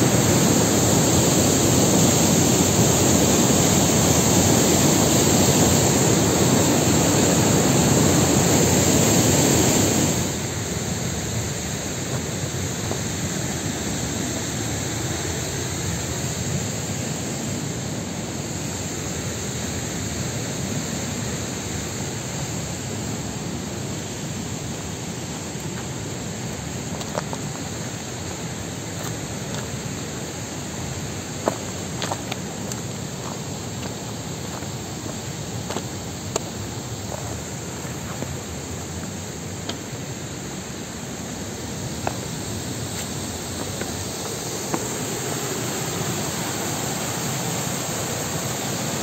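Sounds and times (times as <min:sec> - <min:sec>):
river and waterfall rushing: 0:00.0 - 0:49.0.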